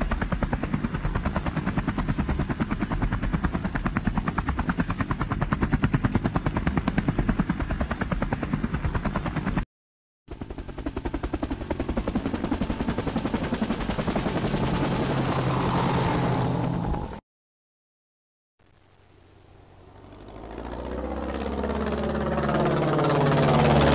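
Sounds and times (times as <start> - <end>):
helicopter rotor beating: 0.0 - 9.6, 10.3 - 17.2, 19.4 - 23.9.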